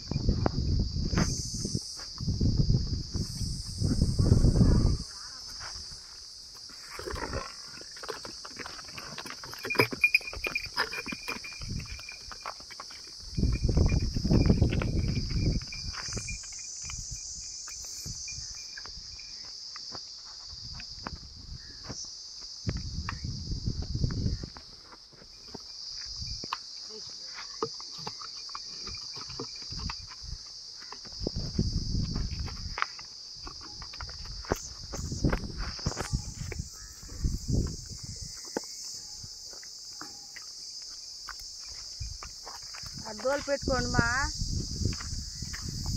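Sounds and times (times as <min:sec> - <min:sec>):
crickets droning: 0:00.0 - 0:45.9
insects chirring: 0:00.0 - 0:45.9
hooves on stone: 0:05.1 - 0:45.9
footsteps on dirt path: 0:05.4 - 0:45.9.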